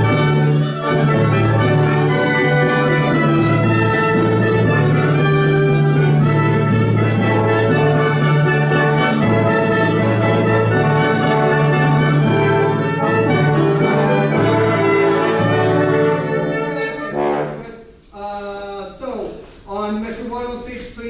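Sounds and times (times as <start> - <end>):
brass ensemble playing chords: 0.0 - 18.0
trombone and trumpet: 0.0 - 18.0.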